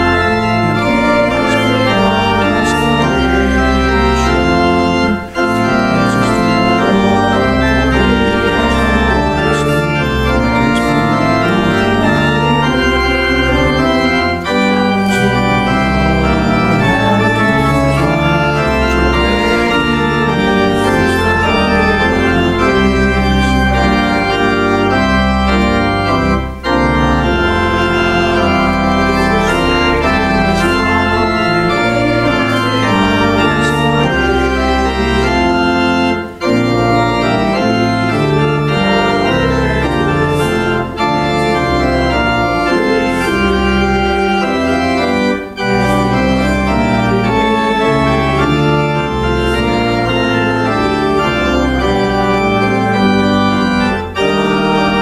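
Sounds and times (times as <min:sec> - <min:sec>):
church organ playing chords: 0:00.0 - 0:55.0.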